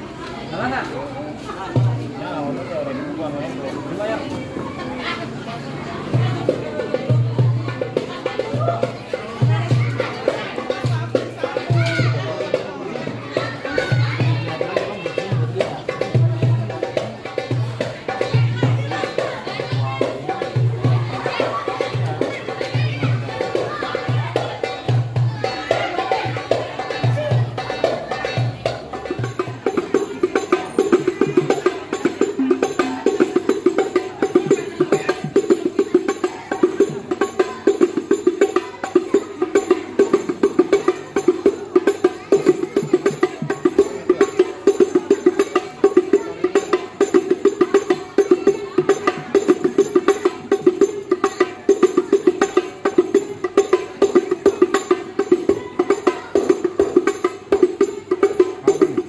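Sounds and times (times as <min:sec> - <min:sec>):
frame drums playing: 0:01.7 - 0:02.2, 0:05.7 - 0:59.0.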